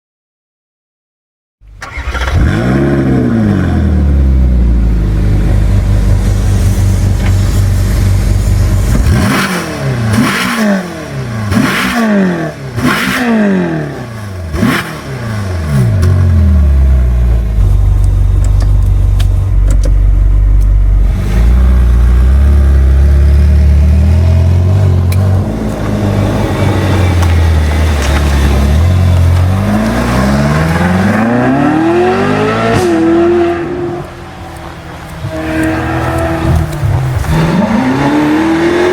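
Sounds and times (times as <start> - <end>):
car engine revving: 1.8 - 38.9.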